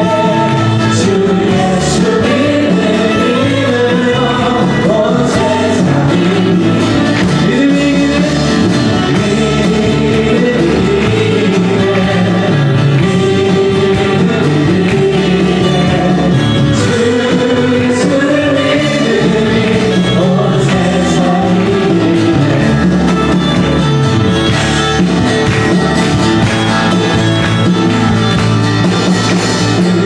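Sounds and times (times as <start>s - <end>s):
voices singing: 0.0s - 30.0s
worship band playing: 0.0s - 30.0s.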